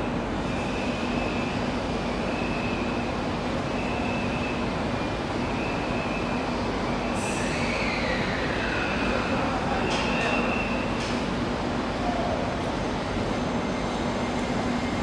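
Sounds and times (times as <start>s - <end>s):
stopped electric train hum: 0.0s - 15.0s.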